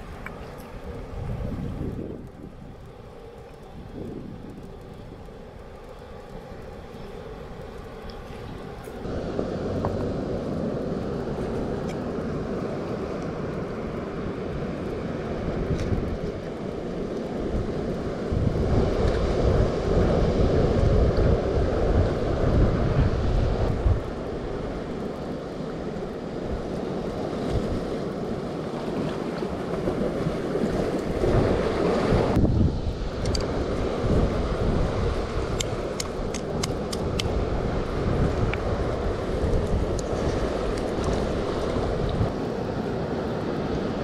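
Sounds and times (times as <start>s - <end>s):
sea surf: 0.0s - 44.0s
wind gusting on microphone: 0.0s - 44.0s.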